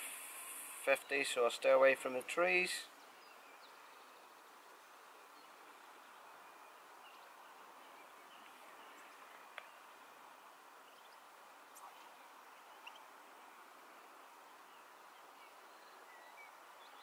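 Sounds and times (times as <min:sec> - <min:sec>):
distant bird chirps: 0:00.0 - 0:17.0.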